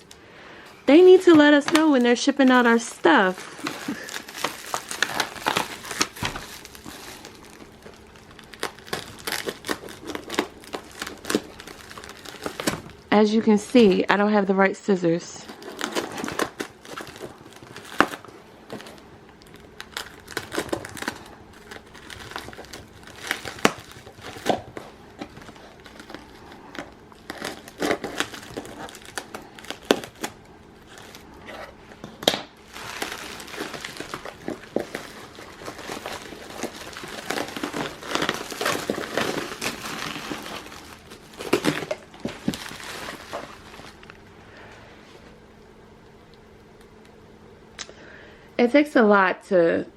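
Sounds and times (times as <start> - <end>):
packing wrap crinkling and tearing: 0.0 - 14.3, 15.0 - 45.3.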